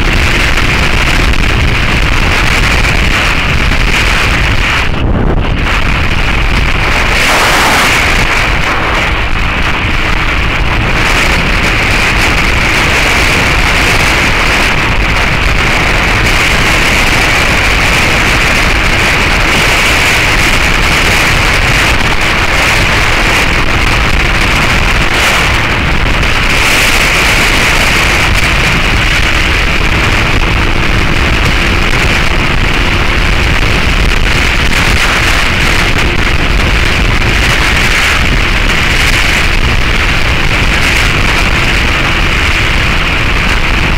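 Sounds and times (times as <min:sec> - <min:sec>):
heavy wind on microphone: 0:00.0 - 0:43.9
motorcycle engine cruising: 0:00.0 - 0:43.9.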